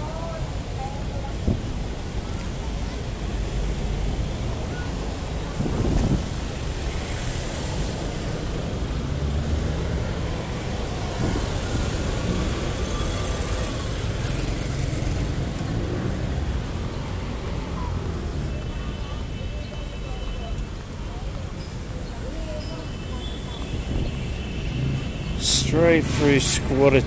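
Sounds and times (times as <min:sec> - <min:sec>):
cars driving past: 0:00.3 - 0:19.2, 0:20.6 - 0:27.0.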